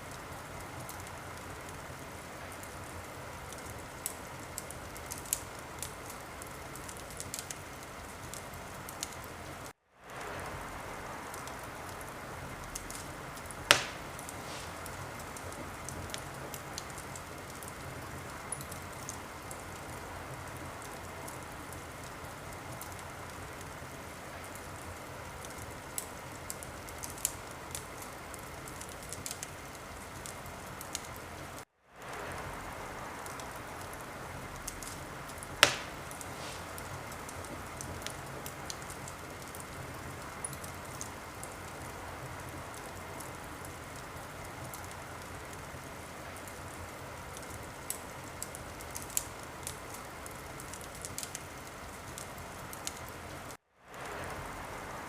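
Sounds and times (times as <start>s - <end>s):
fire popping: 0.0s - 55.0s
steady hiss: 0.0s - 55.0s
wood fire crackling: 0.0s - 55.0s.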